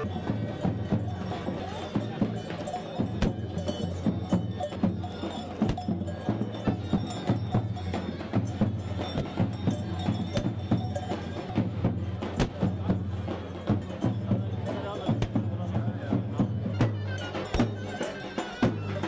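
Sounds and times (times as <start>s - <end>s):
sharp percussion strikes: 0.0s - 19.0s.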